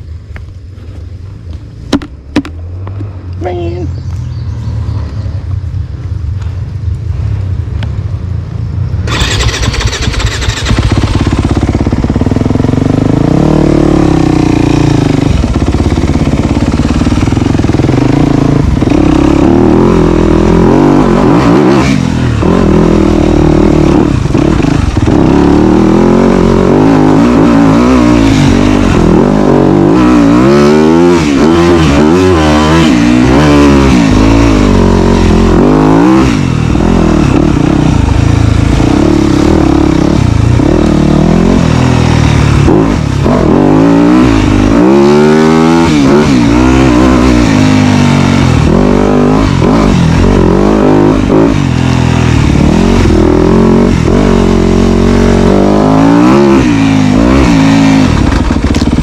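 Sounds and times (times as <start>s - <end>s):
dirt bike engine revving: 9.0s - 59.0s.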